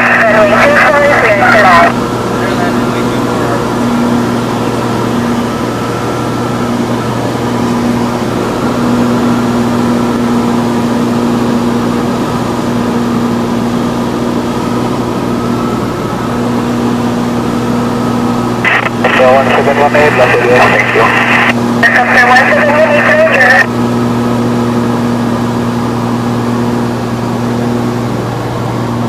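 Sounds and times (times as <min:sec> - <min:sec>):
propeller plane cabin drone: 0:00.0 - 0:29.0.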